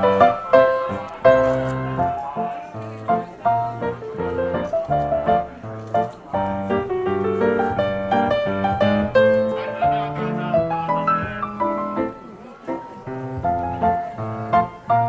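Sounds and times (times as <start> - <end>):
keyboard music: 0.0 - 15.0.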